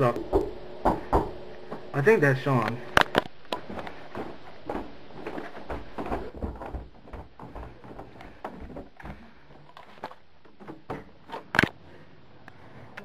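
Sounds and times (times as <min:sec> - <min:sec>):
footsteps in hallway: 0:00.0 - 0:02.0, 0:03.0 - 0:11.5.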